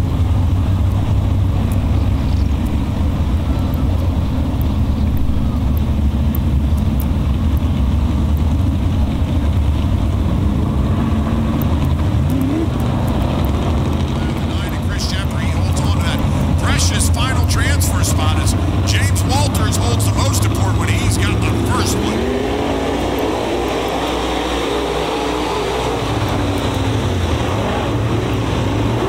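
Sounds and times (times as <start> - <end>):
engine accelerating: 0.0 - 29.0
race car engines roaring: 0.0 - 29.0.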